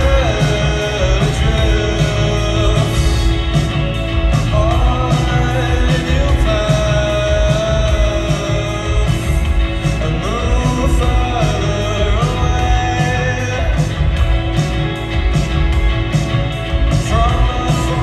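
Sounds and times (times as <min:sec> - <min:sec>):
person singing: 0:00.0 - 0:14.5, 0:16.9 - 0:18.0
rock band playing: 0:00.0 - 0:18.0.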